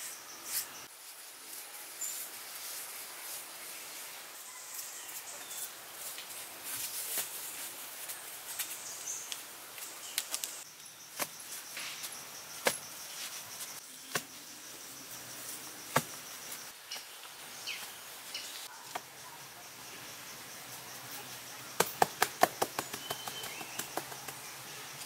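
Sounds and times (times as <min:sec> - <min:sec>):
high hiss of outdoor background: 0:00.0 - 0:25.0.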